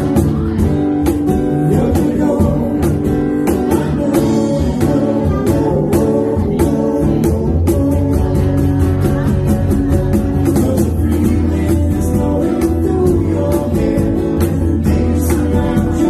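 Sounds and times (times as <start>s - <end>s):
guitar: 0.0s - 16.0s
steady percussion beat: 0.0s - 16.0s
sung vocals: 0.0s - 16.0s.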